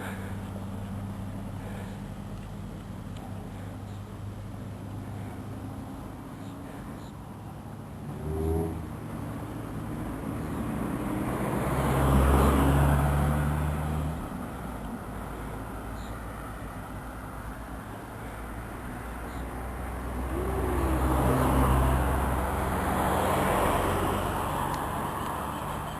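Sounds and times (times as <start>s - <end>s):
vehicle passing on road: 0.0s - 25.9s.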